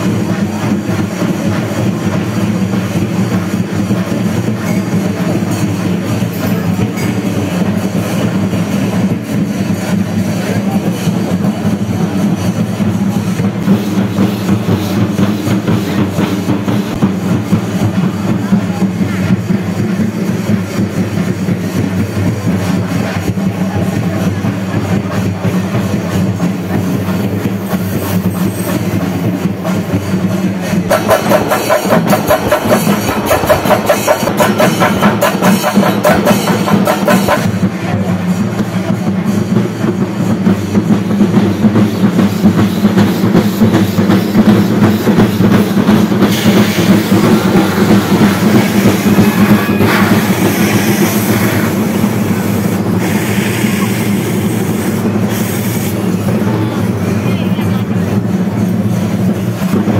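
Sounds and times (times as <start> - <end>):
percussion ensemble drumming: 0.0 - 59.9.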